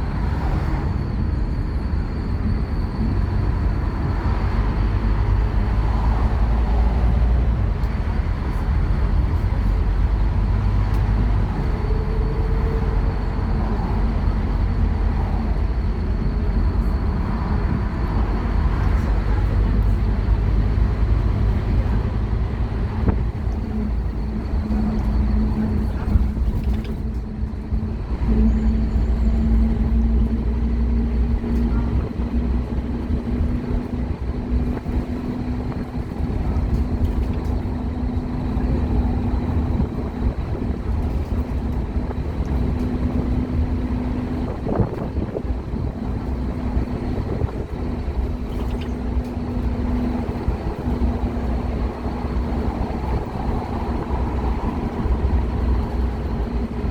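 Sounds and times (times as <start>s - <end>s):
bus diesel engine rumbling: 0.0s - 56.9s
constant whining tone: 0.0s - 56.9s.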